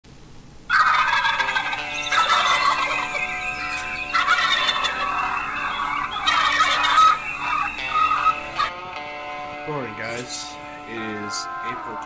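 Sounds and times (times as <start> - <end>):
turkey gobbling: 0.7 - 8.7, 10.1 - 12.0.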